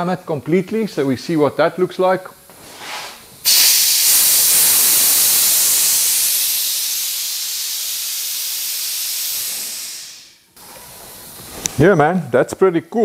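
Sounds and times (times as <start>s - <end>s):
air venting hiss: 0.0s - 13.0s.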